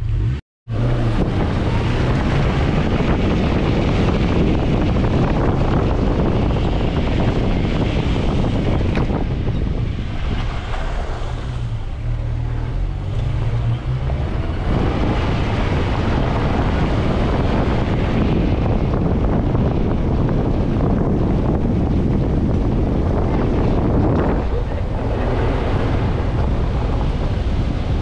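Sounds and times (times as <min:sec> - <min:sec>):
car engine rumbling: 0:00.0 - 0:28.0
rough rushing noise: 0:00.0 - 0:28.0
wind buffeting the microphone: 0:00.7 - 0:28.0.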